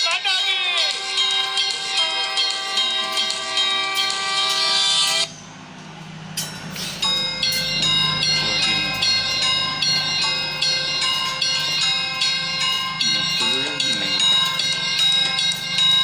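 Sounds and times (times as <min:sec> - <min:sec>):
music of high ringing notes: 0:00.0 - 0:05.4, 0:06.1 - 0:16.0.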